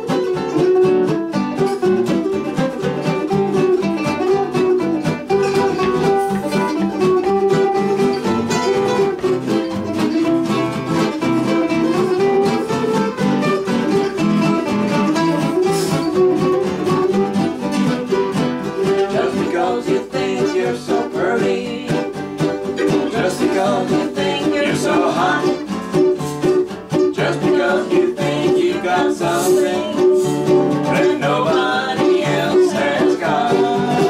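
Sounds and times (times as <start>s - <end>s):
acoustic guitars playing: 0.0s - 34.0s
mandolin playing: 0.0s - 34.0s.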